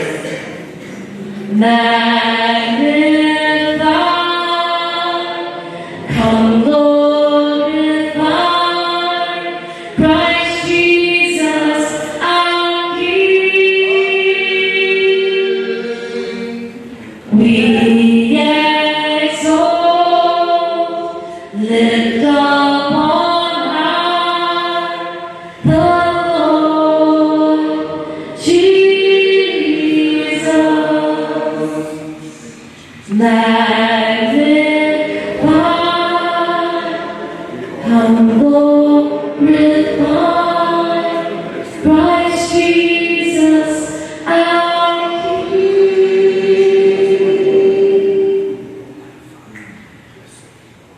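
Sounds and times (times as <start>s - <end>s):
choir singing slow worship song: 0.0s - 50.6s.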